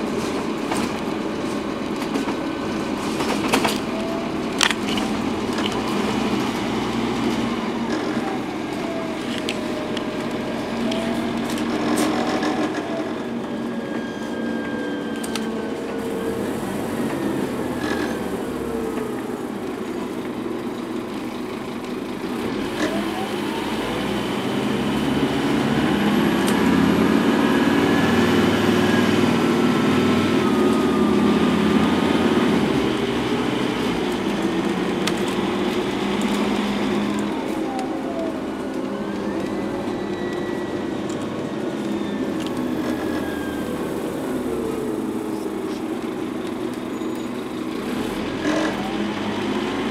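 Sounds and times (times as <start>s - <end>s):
bus diesel engine rumbling: 0.0s - 49.9s
drivetrain whine: 0.0s - 49.9s.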